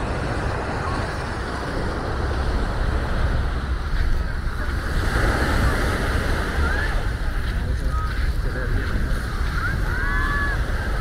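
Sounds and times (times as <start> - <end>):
surf washing onto sand: 0.0 - 11.0
wind rumbling on microphone: 0.0 - 11.0.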